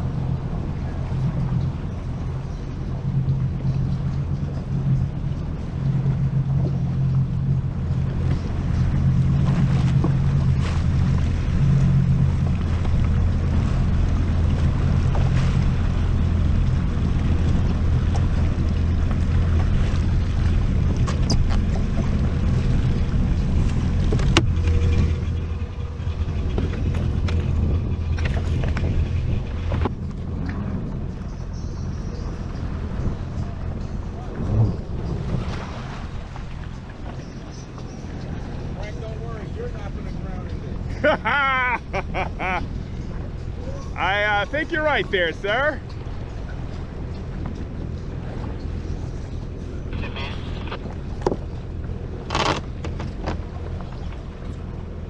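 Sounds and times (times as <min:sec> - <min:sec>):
jet ski engine running: 0:00.0 - 0:55.0.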